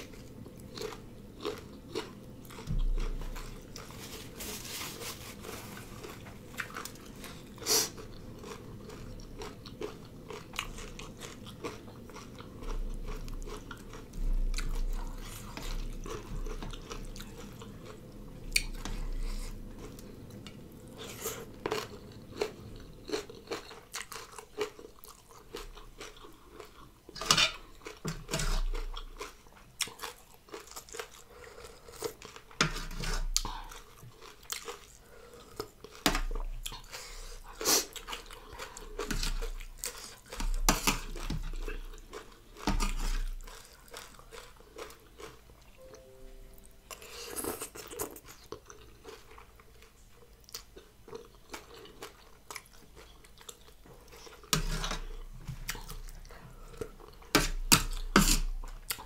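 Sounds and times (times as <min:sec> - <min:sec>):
chewing and crunching: 0:00.0 - 0:04.4, 0:05.4 - 0:45.8, 0:46.9 - 0:59.0.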